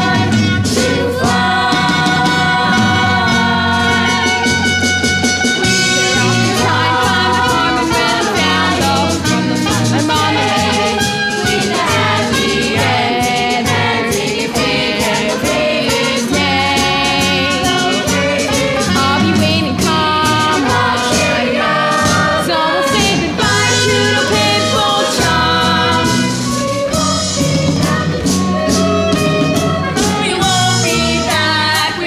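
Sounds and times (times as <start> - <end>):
young voices singing: 0.0 - 4.9, 5.7 - 32.0
instrumental accompaniment: 0.0 - 32.0
repeating bass line: 0.0 - 32.0.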